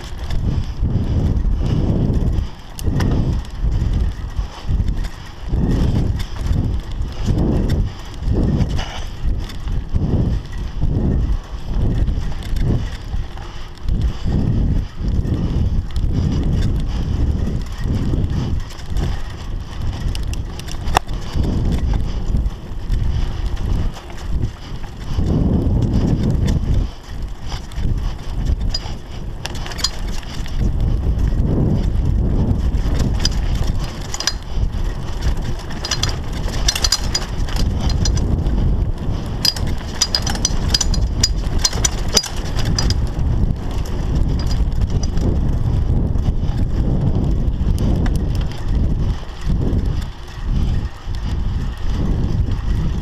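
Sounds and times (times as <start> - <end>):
bike rattling and clicking: 0.0 - 53.0
bike tyres rumbling on dirt: 0.0 - 53.0
wind buffeting microphone: 0.0 - 53.0.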